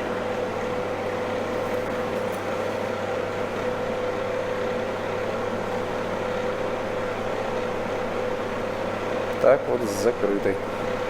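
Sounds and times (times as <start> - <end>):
duct fan humming: 0.0 - 11.0.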